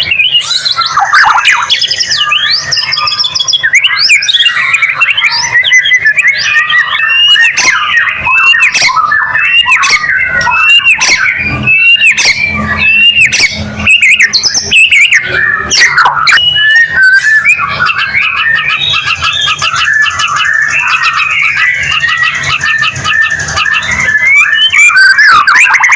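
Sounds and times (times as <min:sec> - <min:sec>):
bird clicking and harsh notes: 0:00.0 - 0:25.9
songbird whistling song: 0:00.0 - 0:25.9.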